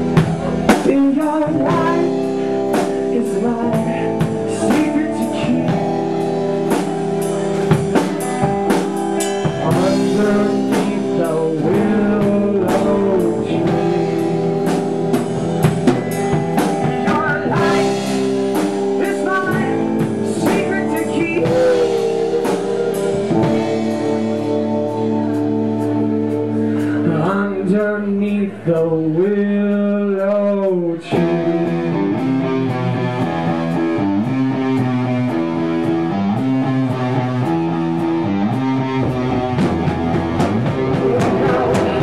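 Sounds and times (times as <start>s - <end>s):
blues-rock band playing: 0.0s - 42.0s.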